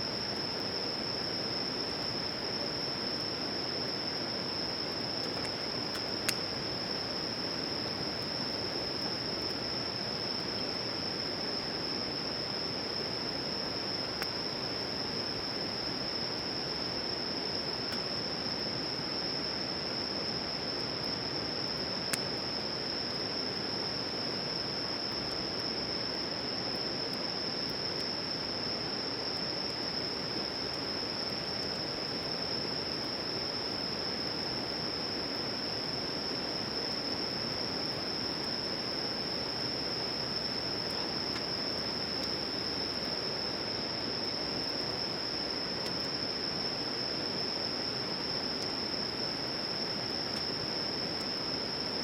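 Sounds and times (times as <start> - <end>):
high-pitched insect trill: 0.0 - 52.0.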